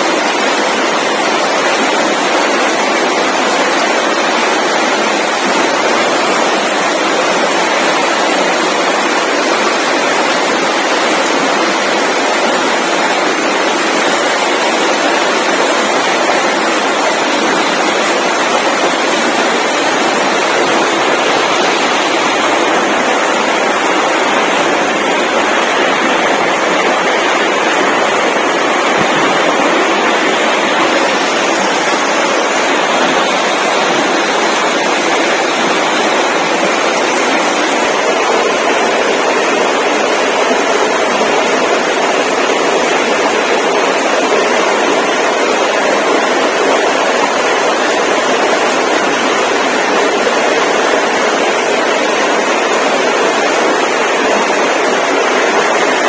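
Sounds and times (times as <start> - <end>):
loud steady rushing noise: 0.0 - 56.0.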